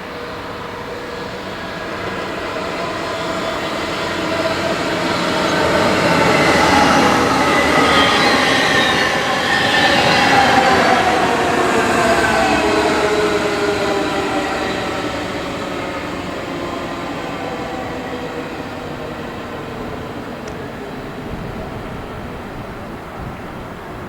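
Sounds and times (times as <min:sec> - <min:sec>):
rushing rail noise: 0:00.0 - 0:24.0
train passing through station: 0:00.0 - 0:24.0
whining tones sliding lower: 0:00.0 - 0:24.0.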